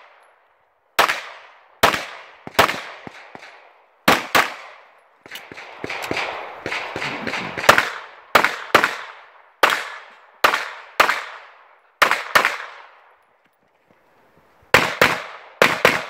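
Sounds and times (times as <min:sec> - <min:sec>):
pistol shots with echo: 0:01.0 - 0:13.0, 0:14.7 - 0:16.0.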